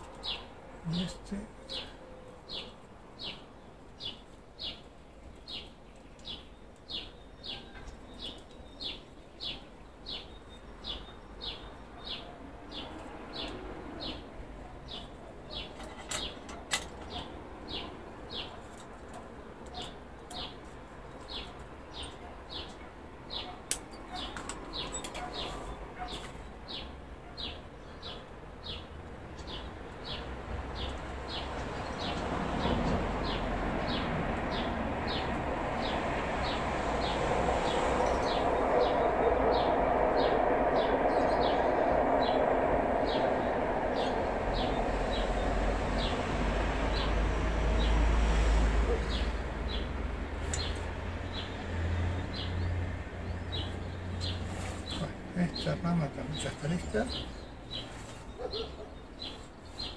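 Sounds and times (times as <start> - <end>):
bird chirping: 0.0 - 47.2, 48.9 - 59.9.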